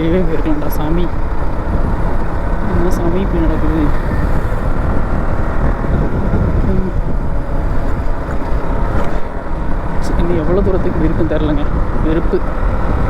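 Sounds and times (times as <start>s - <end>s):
motorcycle engine running: 0.0s - 13.0s
riding noise: 0.0s - 13.0s.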